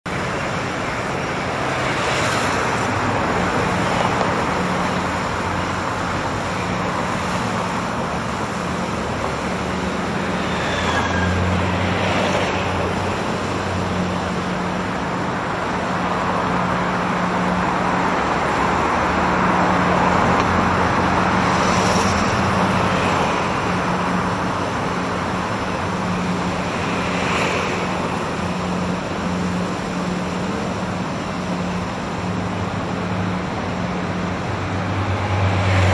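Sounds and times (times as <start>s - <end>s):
boat engine humming: 0.0s - 35.9s
churned water rushing: 0.1s - 35.9s.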